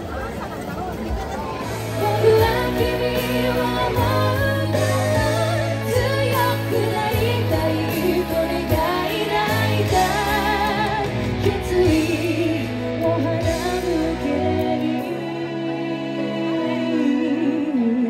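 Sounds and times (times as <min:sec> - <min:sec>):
woman singing into a microphone: 0:01.8 - 0:18.0.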